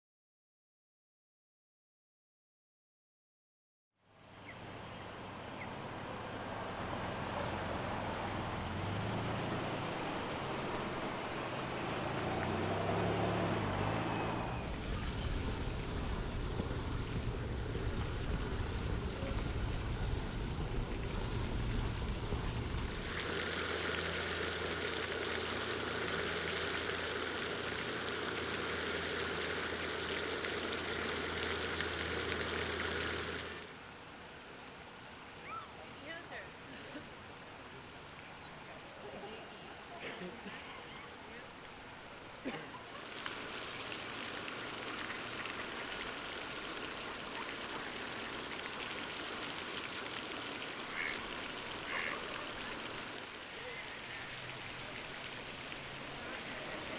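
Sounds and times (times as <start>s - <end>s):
outdoor ambient noise: 4.0s - 56.9s.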